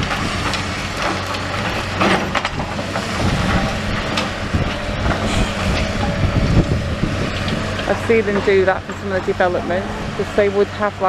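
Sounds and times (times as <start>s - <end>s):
digger diesel engine running: 0.0s - 11.0s.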